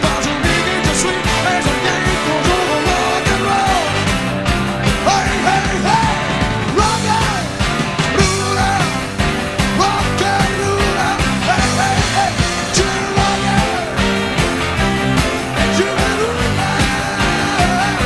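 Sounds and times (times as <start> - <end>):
bass: 0.0 - 18.0
lead guitar bending notes: 0.0 - 18.0
live rock band instrumental: 0.0 - 18.0
steady drum beat: 0.0 - 18.0.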